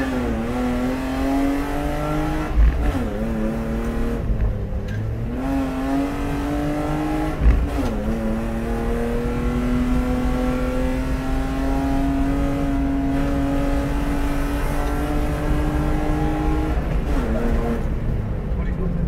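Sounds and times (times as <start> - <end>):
race car engine under load: 0.0 - 19.0.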